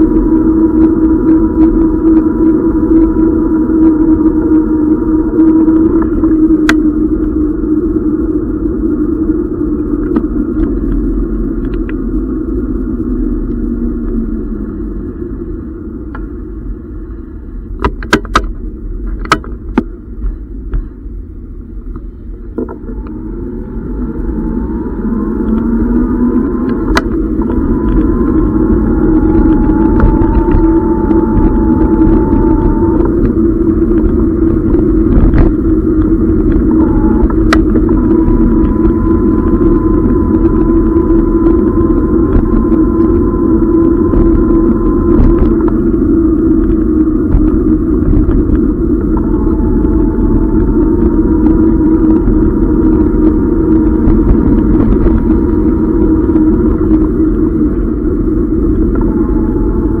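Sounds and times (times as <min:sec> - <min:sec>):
electric bike hum and rumble: 0:00.0 - 1:00.0
thin high whine: 0:00.0 - 1:00.0.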